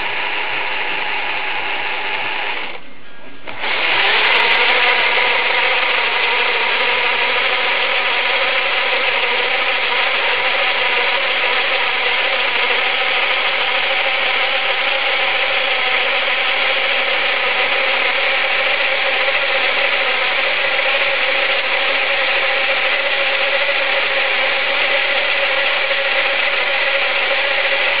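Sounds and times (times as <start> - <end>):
toy car motor whine: 0.0 - 2.8, 3.5 - 28.0.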